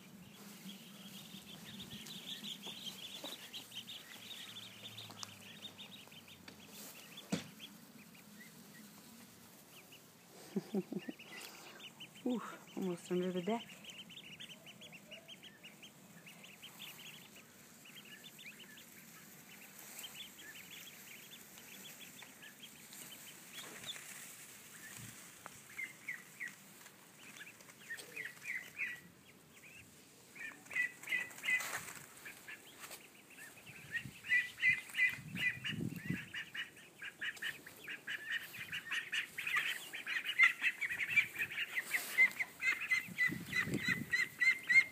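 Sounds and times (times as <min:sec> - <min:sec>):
ducklings peeping: 0:00.0 - 0:44.9.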